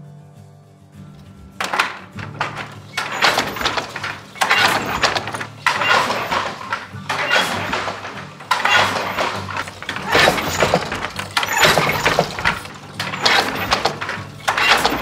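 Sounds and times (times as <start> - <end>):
wooden loom clattering: 1.2 - 15.0.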